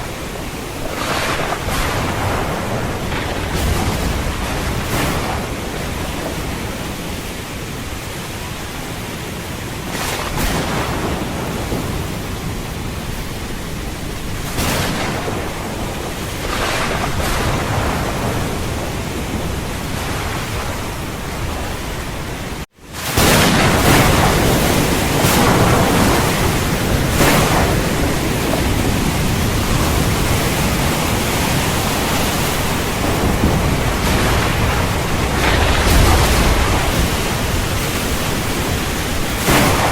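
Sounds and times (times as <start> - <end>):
low thunder rumbling: 0.0 - 39.9
steady rain: 0.0 - 39.9.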